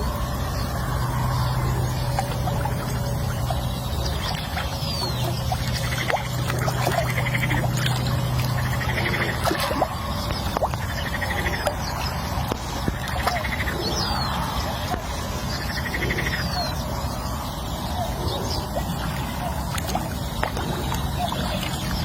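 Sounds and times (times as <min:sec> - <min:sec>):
outdoor ambience: 0:00.0 - 0:22.0
steady low hum: 0:00.0 - 0:22.0
trilling animal calls: 0:00.0 - 0:22.0.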